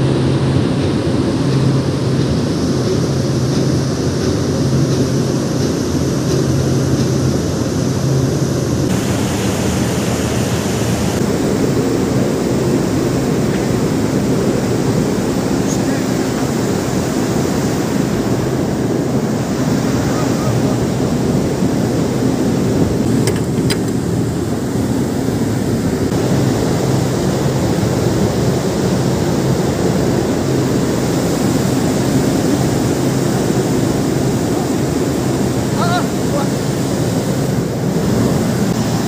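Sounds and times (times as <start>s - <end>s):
sea noise: 0.0s - 39.0s
wind buffeting microphone: 0.0s - 39.0s.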